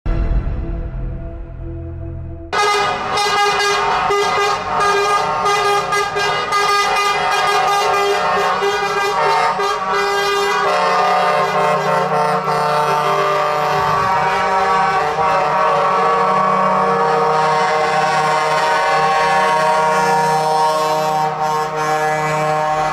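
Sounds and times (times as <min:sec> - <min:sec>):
truck air horns blaring: 0:02.5 - 0:22.9
truck engines humming: 0:02.6 - 0:22.9.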